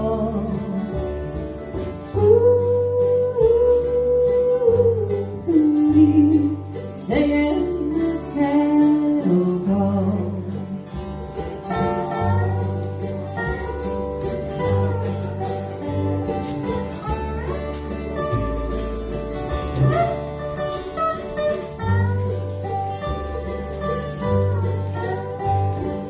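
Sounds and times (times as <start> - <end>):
guitar picking melody: 0.0 - 26.0.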